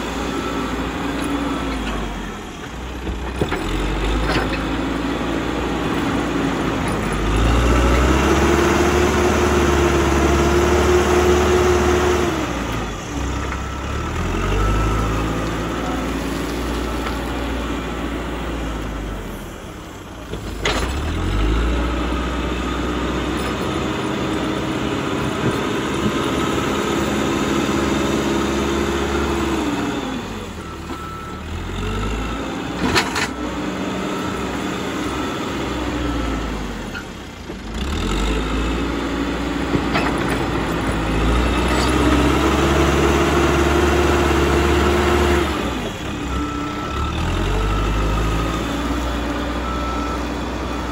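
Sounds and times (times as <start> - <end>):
diesel engine working under load: 0.0 - 50.9.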